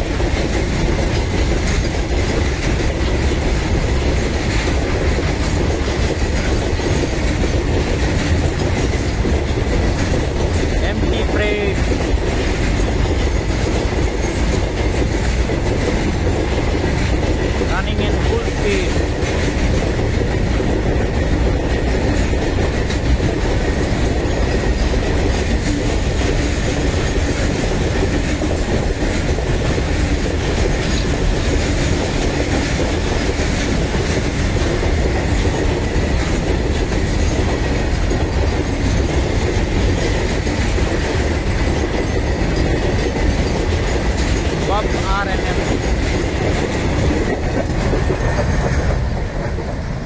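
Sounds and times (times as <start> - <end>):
train wheels running on rails: 0.0 - 50.0.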